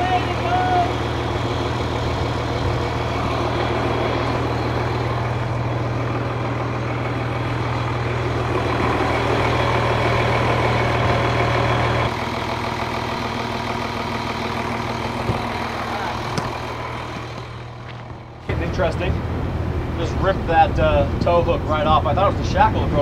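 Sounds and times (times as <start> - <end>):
heavy diesel engine idling: 0.0 - 23.0.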